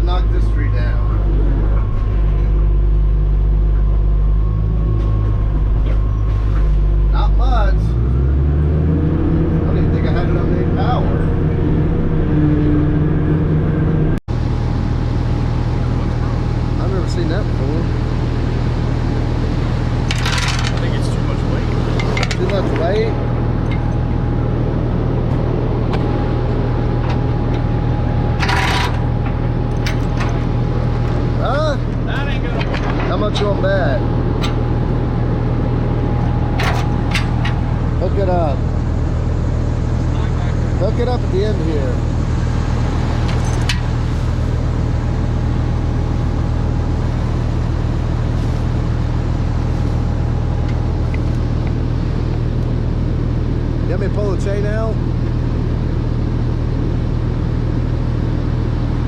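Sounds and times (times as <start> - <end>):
diesel engine rumbling: 0.0 - 59.0.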